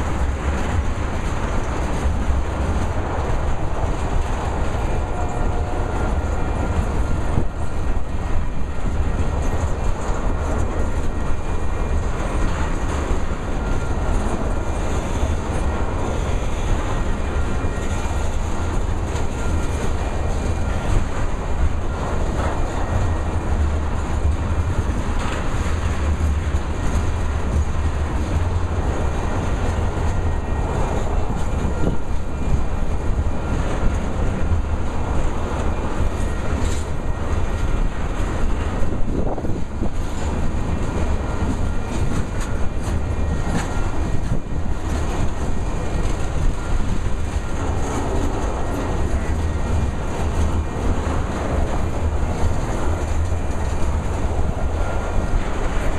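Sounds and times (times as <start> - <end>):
train rumbling past: 0.0 - 55.9
wheels clacking over rail joints: 0.0 - 55.9.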